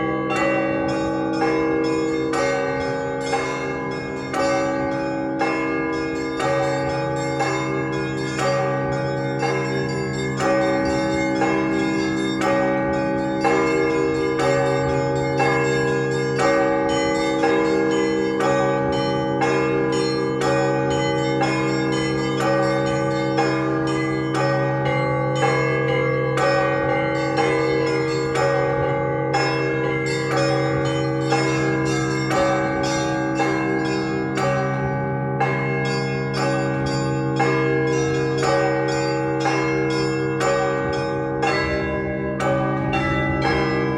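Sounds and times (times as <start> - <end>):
heavy bell strikes: 0.0 - 43.9
hum of large bells: 0.0 - 43.9.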